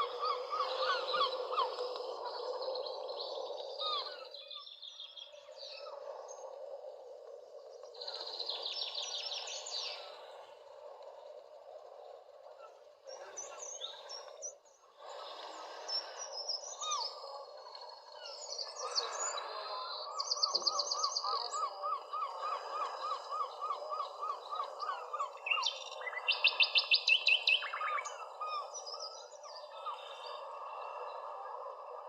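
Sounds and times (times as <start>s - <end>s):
songbirds singing and calling: 0.0s - 32.0s.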